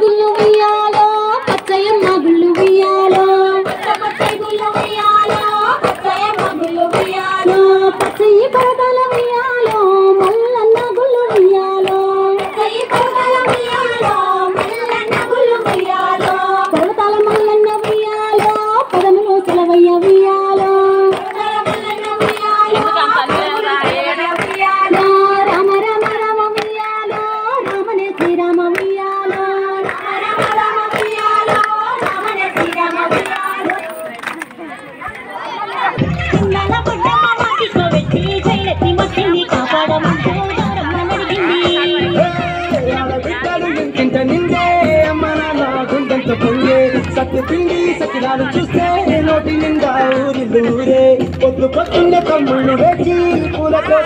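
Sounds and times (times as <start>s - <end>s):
women singing folk song: 0.0s - 34.2s, 36.2s - 54.0s
rhythmic hand clapping: 0.0s - 54.0s.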